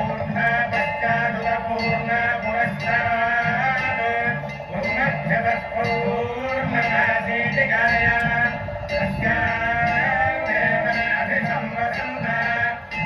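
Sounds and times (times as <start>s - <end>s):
devotional music with singing: 0.0s - 13.0s
metal bells ringing: 0.0s - 13.0s.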